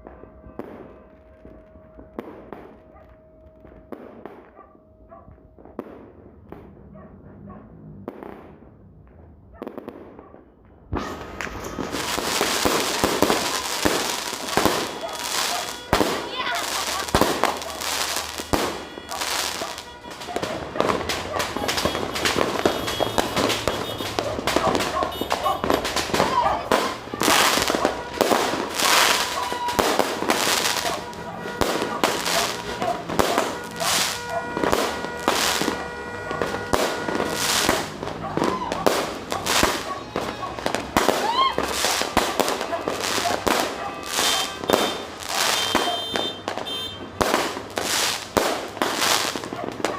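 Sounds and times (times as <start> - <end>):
continuous fireworks crackling: 0.0 - 49.9
sharp firework cracks: 5.7 - 49.9.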